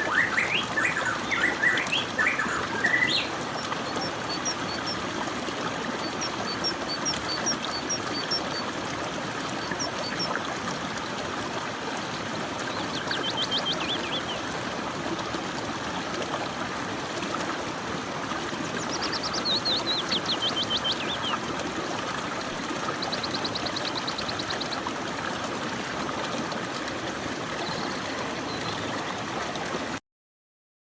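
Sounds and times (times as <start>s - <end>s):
flowing stream water: 0.0s - 30.0s.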